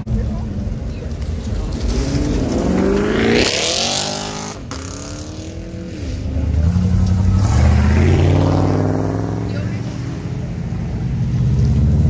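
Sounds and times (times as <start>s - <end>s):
low engine rumble: 0.0s - 3.4s, 4.1s - 12.0s
car accelerating hard: 1.3s - 12.0s.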